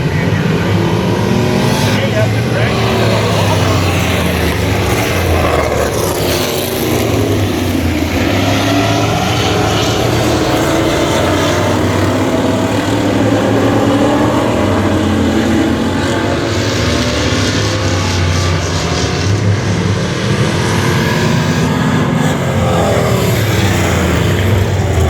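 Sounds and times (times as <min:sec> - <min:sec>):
stock car engine running hard: 0:00.0 - 0:25.0.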